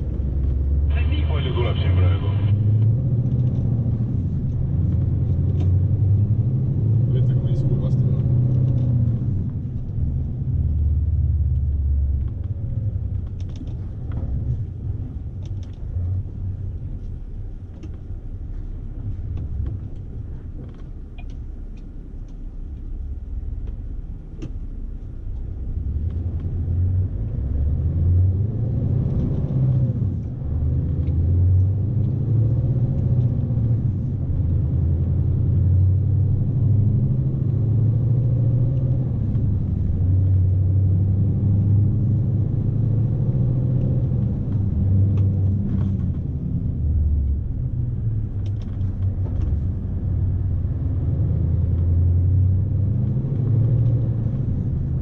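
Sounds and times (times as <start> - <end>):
diesel truck engine rumble: 0.0 - 55.0.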